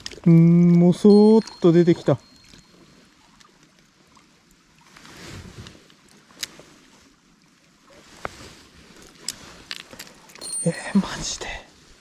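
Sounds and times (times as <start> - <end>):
water sloshing and splashing: 0.0 - 10.5.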